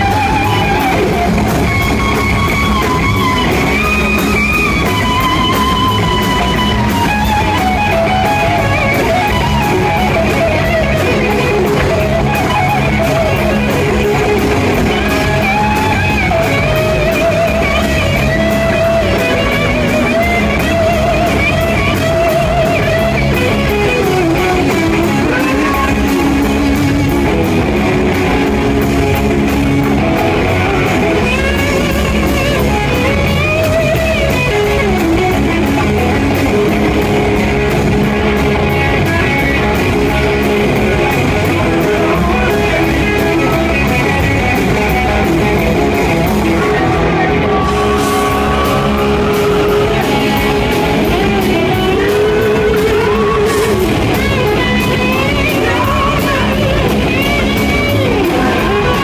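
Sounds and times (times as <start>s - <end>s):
bending melodic line: 0.0s - 59.0s
drum kit: 0.0s - 59.0s
electric guitars: 0.0s - 59.0s.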